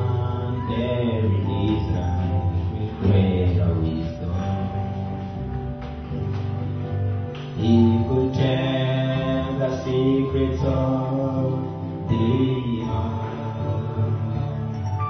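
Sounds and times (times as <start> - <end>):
person singing into microphone: 0.0 - 5.4, 7.6 - 15.0
acoustic guitar: 0.0 - 15.0.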